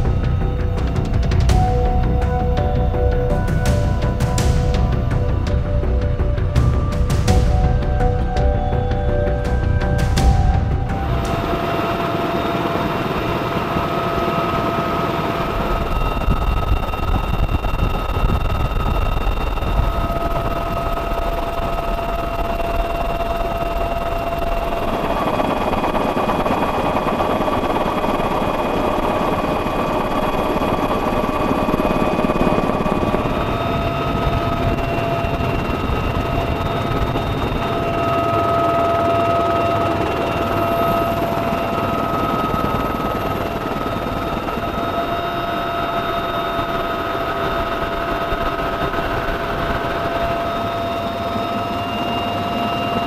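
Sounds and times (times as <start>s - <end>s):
helicopter rotor and turbine noise: 0.0s - 53.0s.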